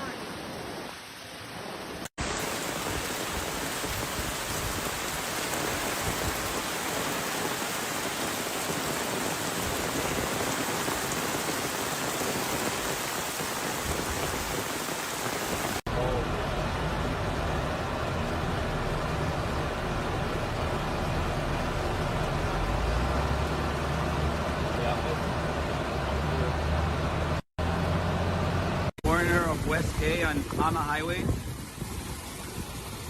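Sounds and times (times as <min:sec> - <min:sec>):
heavy rain hissing: 0:00.0 - 0:27.8.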